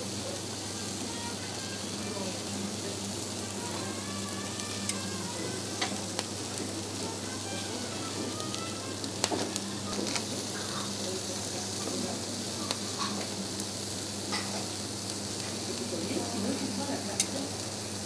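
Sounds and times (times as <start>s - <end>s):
food sizzling on a grill: 0.0s - 18.0s.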